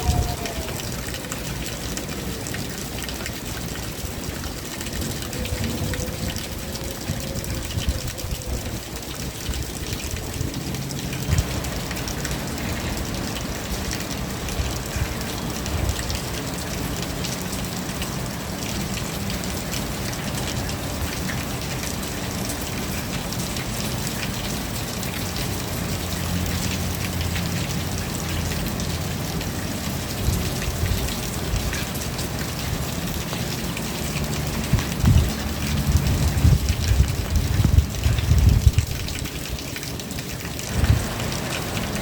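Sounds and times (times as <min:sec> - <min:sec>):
rain drops pattering: 0:00.0 - 0:42.0.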